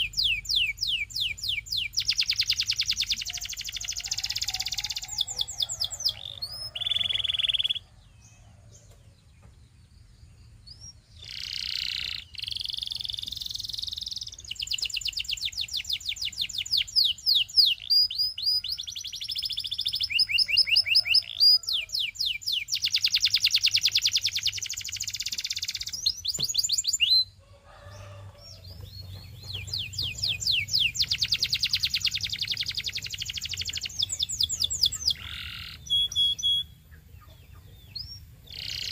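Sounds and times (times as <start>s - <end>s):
canary singing: 0.0s - 9.7s, 10.5s - 38.9s.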